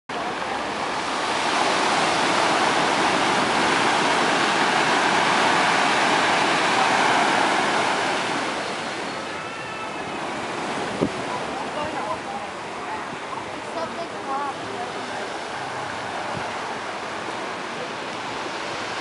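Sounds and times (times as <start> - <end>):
ocean surf breaking on beach: 0.1 - 19.0.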